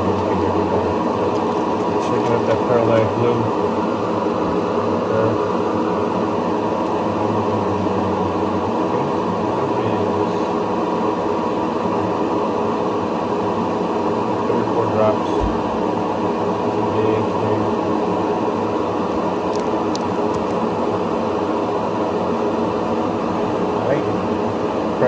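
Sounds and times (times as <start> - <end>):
exhaust fan running: 0.0 - 25.0.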